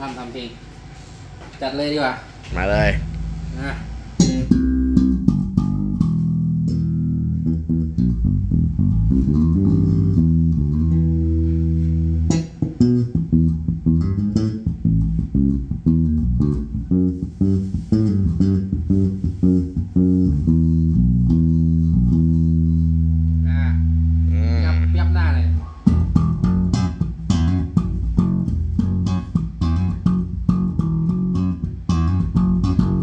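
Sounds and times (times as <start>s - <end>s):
electric bass played fingerstyle: 2.5s - 33.0s.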